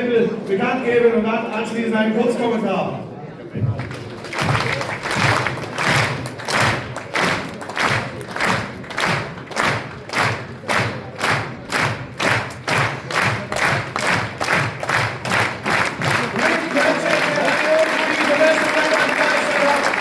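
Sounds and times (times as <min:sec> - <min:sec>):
crowd clapping in rhythm: 0:03.7 - 0:20.0.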